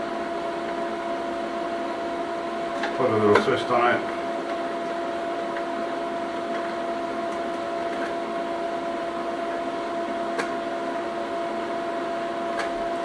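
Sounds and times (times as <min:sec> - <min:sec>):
machine hum with whine: 0:00.0 - 0:13.0.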